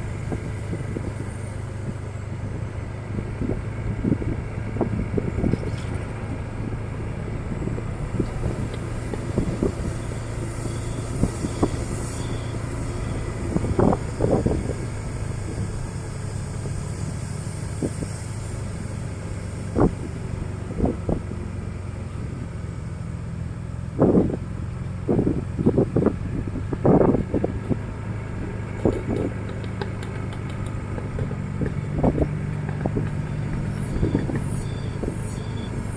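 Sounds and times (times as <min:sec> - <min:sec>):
motorbike engine running: 0:00.0 - 0:35.9.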